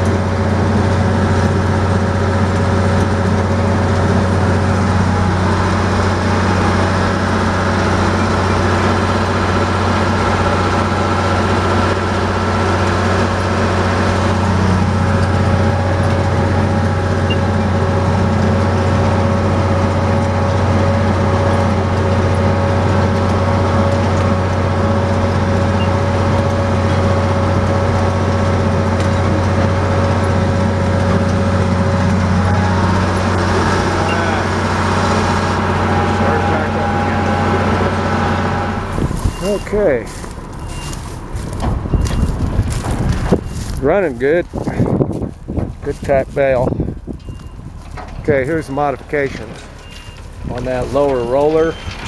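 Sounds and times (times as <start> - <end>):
baler whine: 0.0 - 52.0
tractor engine running under load: 0.0 - 52.0.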